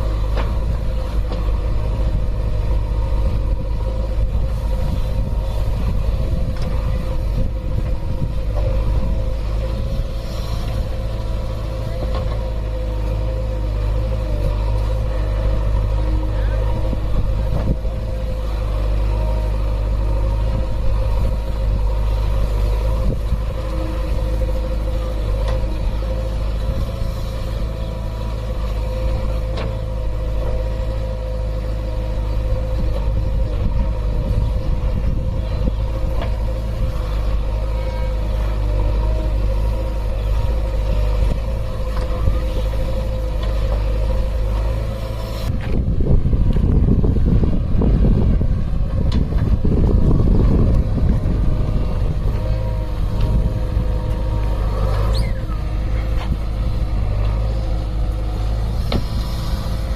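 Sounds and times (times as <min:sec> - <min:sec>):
backhoe diesel engine running: 0:00.0 - 0:59.9
hydraulic whine: 0:00.0 - 0:59.9.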